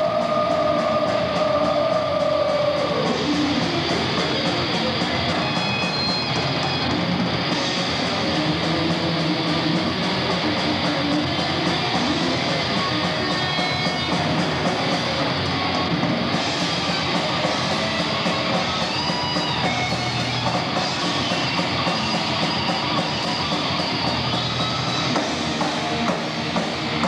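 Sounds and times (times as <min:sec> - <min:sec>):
distorted electric guitar: 0:00.0 - 0:27.0
drum kit: 0:00.0 - 0:27.0.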